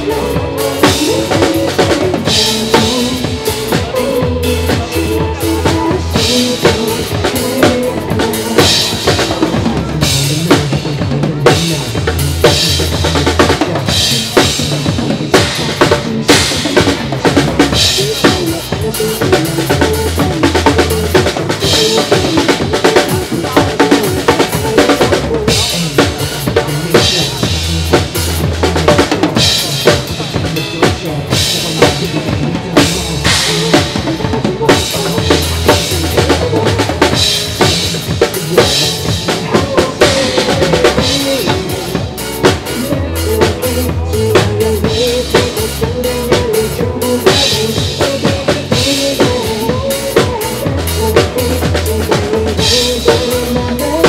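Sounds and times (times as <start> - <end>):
drum kit playing pop groove: 0.0 - 54.0
recorded pop song: 0.0 - 54.0.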